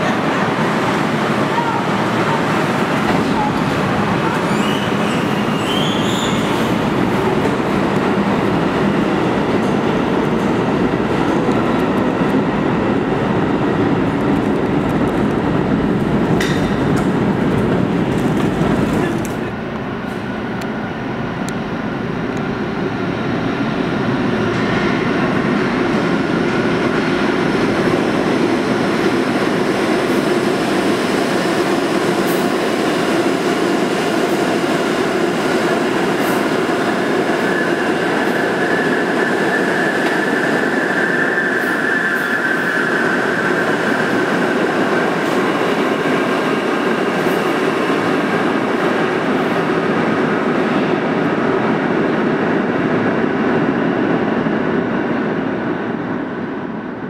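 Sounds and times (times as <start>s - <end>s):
subway train approaching: 0.0s - 57.0s
subway train rumbling: 0.0s - 57.0s.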